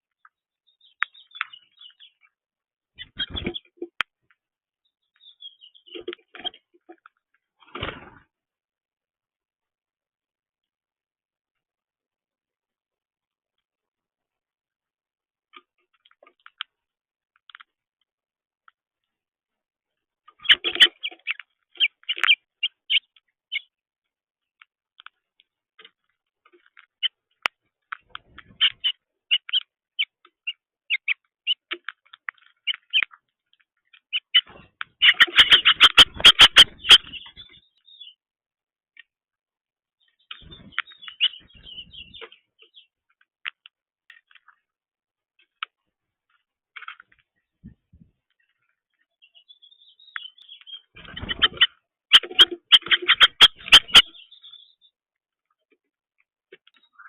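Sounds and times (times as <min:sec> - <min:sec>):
small birds chirping: 0:00.0 - 0:08.3, 0:15.5 - 0:18.0, 0:18.6 - 0:39.3, 0:39.9 - 0:57.0.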